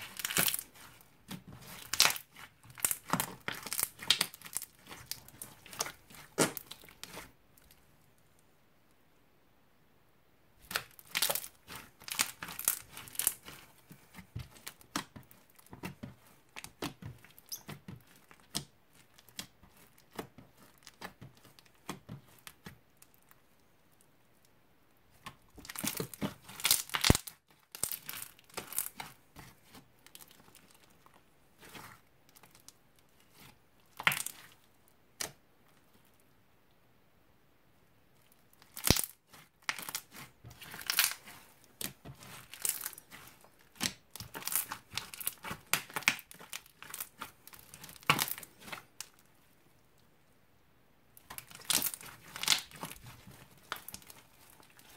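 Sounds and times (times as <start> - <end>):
crunchy slime crackling: 0.0 - 7.9, 10.6 - 23.4, 25.1 - 36.1, 38.2 - 49.6, 51.2 - 54.9.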